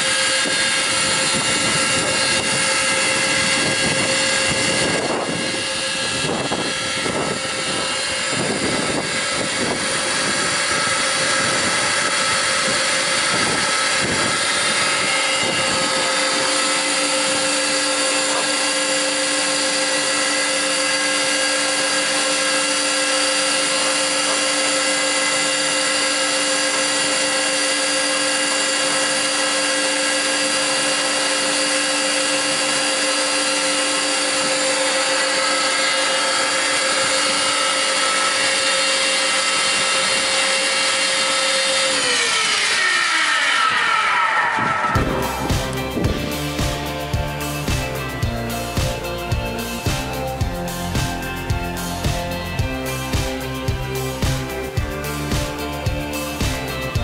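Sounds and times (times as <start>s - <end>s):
planer-moulder machine whining: 0.0s - 57.0s.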